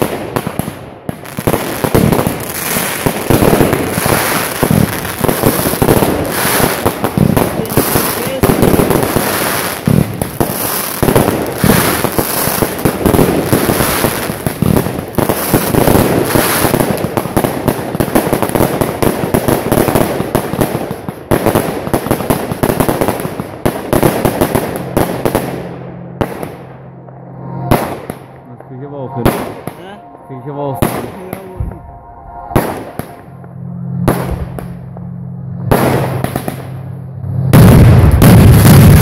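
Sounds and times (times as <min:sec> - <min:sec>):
fireworks bangs and crackles: 0:00.0 - 0:26.9, 0:27.6 - 0:31.9, 0:32.5 - 0:39.0.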